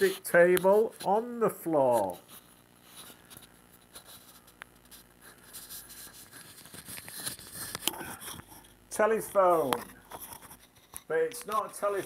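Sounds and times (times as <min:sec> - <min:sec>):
phone handling rustle: 0:01.9 - 0:12.0.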